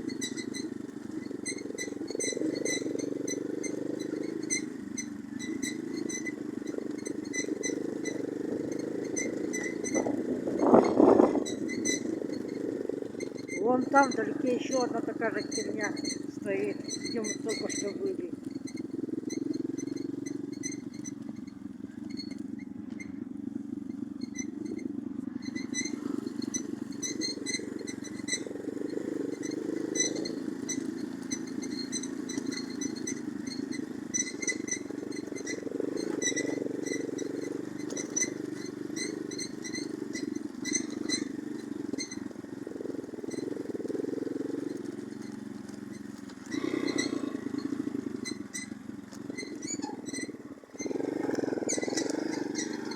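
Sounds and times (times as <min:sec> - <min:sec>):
moped engine running: 0:00.0 - 0:52.9.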